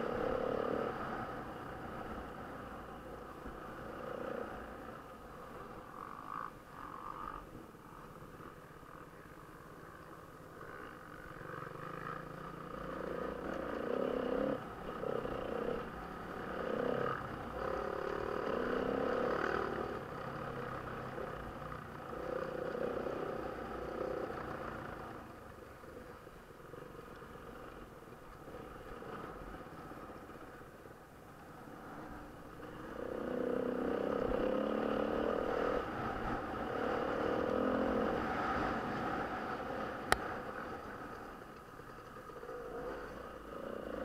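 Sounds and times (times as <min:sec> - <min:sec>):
off-road motorcycle engine revving: 0:00.0 - 0:44.0.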